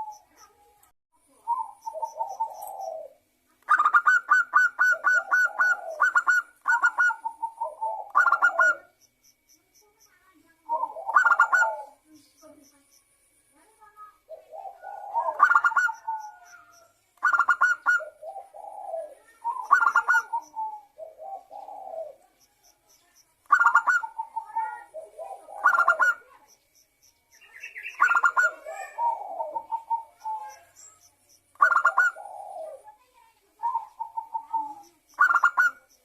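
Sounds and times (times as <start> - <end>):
dove cooing: 0.0 - 0.6, 1.2 - 9.0, 10.6 - 12.1, 14.2 - 22.8, 23.4 - 26.5, 27.6 - 30.8, 31.4 - 36.0.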